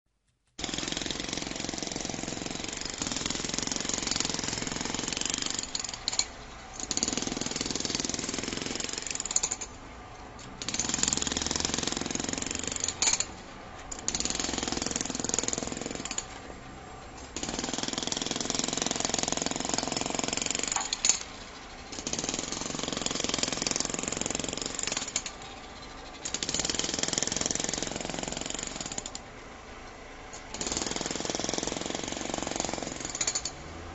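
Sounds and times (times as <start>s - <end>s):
jackhammer hammering: 0.6s - 9.8s, 10.4s - 16.4s, 17.4s - 29.2s, 30.5s - 33.8s.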